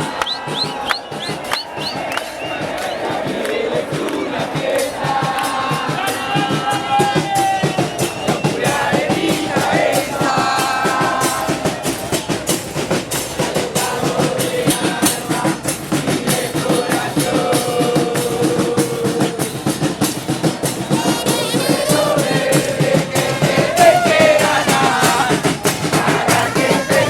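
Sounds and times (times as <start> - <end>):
crowd singing a chant: 0.0 - 27.0
rhythmic drum beats: 0.0 - 27.0.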